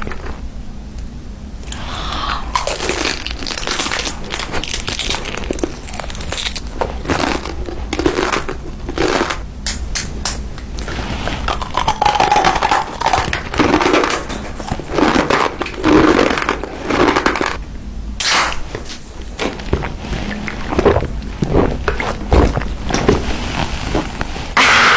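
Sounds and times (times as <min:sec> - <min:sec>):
crunching and chewing food: 0:00.0 - 0:17.7, 0:18.3 - 0:24.9.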